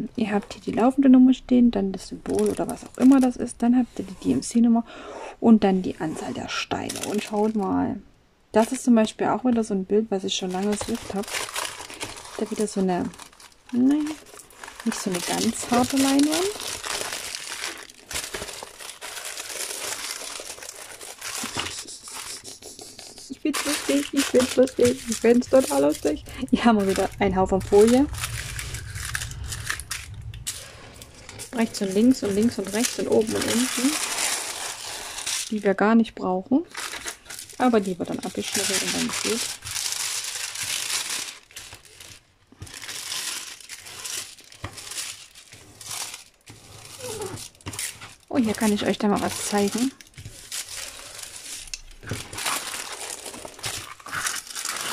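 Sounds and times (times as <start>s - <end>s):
plastic film crinkling: 2.0s - 4.4s, 5.8s - 7.7s, 8.6s - 35.8s, 36.6s - 54.9s.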